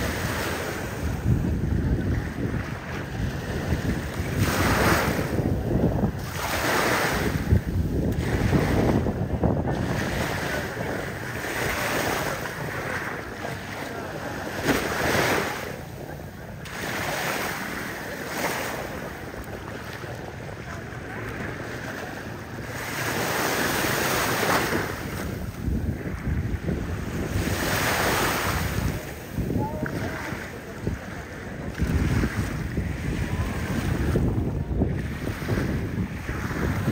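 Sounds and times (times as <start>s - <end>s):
small waves breaking on shore: 0.0s - 36.9s
wind buffeting microphone: 0.0s - 36.9s.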